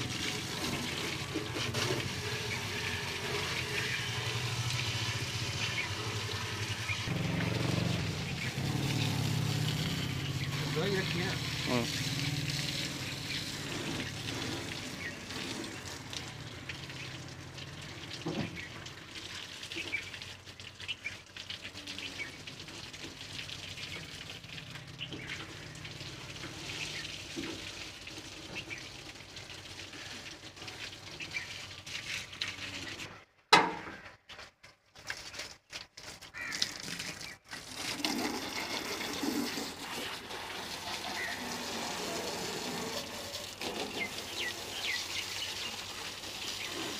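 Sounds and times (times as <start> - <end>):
hose water spattering on metal: 0.0 - 46.9.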